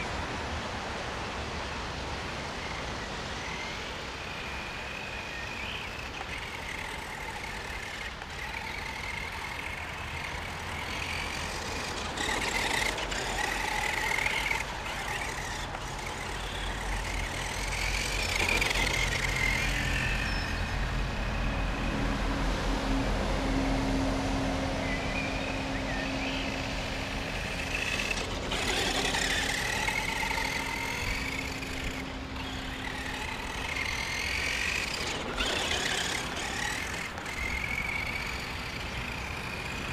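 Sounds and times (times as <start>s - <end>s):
electric motor whining: 3.4s - 22.3s, 25.1s - 39.9s.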